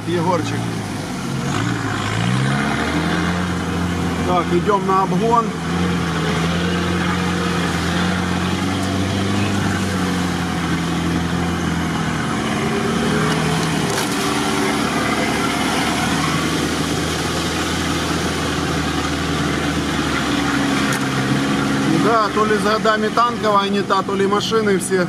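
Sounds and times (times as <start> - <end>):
engine running under load: 0.0 - 25.0
water washing and tyre noise: 0.0 - 25.0.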